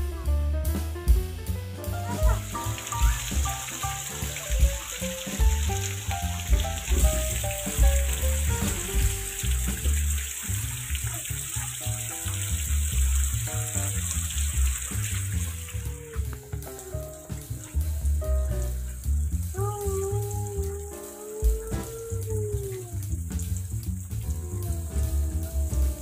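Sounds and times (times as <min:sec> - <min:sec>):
music with heavy low beat: 0:00.0 - 0:11.0, 0:13.2 - 0:26.0
rain hiss: 0:01.3 - 0:26.0.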